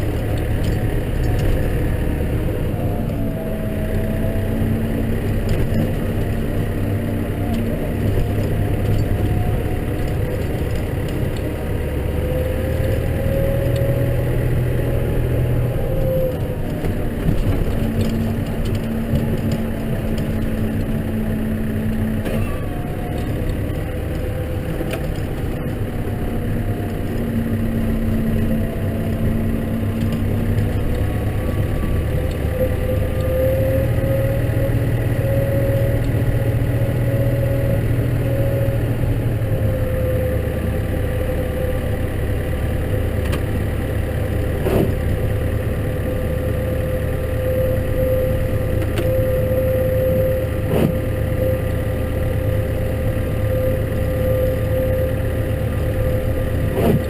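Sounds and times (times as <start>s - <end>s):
steady whine: 0.0s - 57.0s
tractor engine running: 0.0s - 57.0s.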